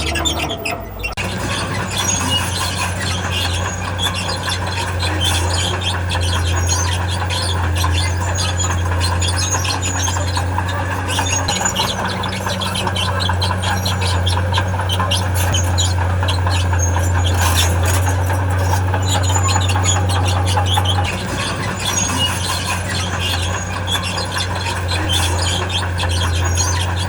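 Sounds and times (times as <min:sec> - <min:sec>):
diesel engine running: 0:00.0 - 0:27.0
steel tracks squealing and clattering: 0:00.0 - 0:27.0.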